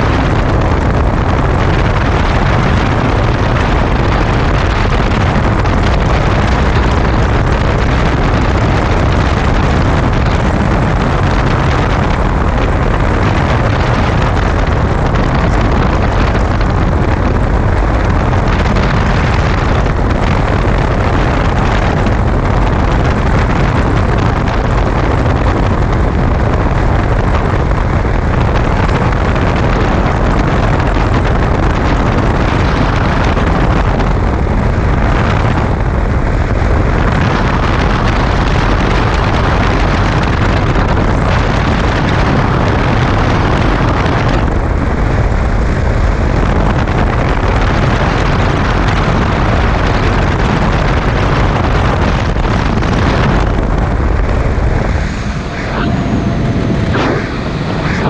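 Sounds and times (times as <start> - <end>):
motorcycle engine and road noise: 0.0 - 58.0
wind rushing over microphone: 0.0 - 58.0.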